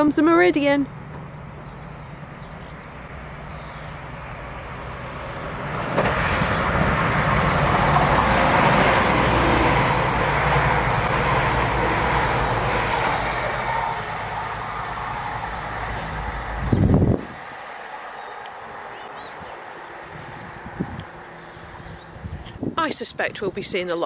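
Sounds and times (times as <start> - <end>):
train engine drone: 0.0 - 22.6
wheels on rails: 0.0 - 22.6.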